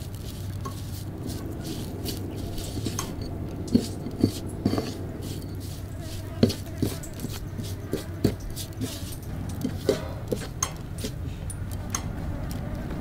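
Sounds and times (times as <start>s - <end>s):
fingers rustling flakes on plate: 0.0s - 11.2s
low steady hum: 0.0s - 13.0s.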